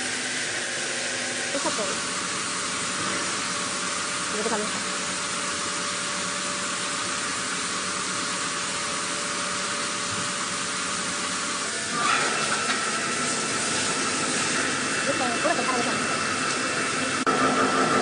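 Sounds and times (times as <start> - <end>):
hissing machine noise: 0.0 - 18.0.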